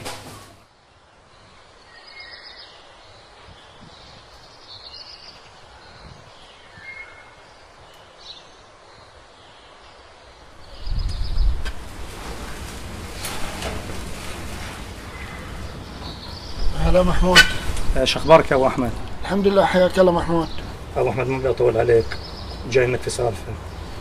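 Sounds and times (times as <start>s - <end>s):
faint steady hiss: 0.0s - 24.0s
small birds chirping: 0.8s - 12.4s, 13.9s - 24.0s.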